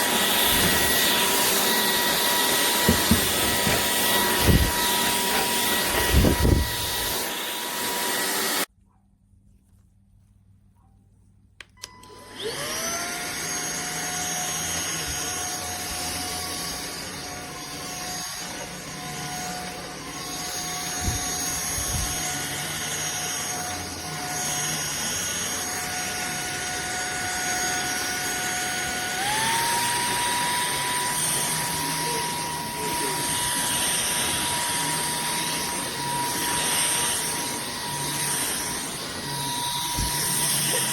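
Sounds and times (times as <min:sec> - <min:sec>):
vacuum cleaner motor whine: 0:00.0 - 0:08.7, 0:11.8 - 0:40.9.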